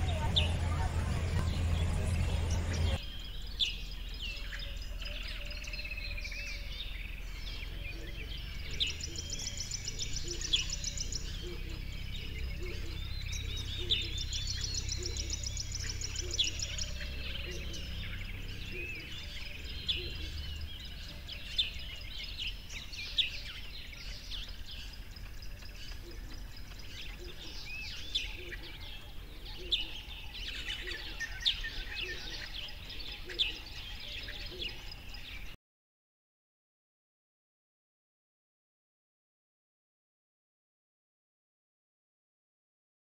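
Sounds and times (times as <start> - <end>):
birds chirping and calling: 0.0 - 35.6
outdoor background noise: 0.0 - 35.6.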